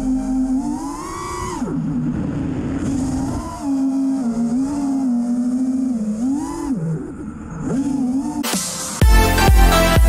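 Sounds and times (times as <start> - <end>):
drone motors whining: 0.0 - 9.0.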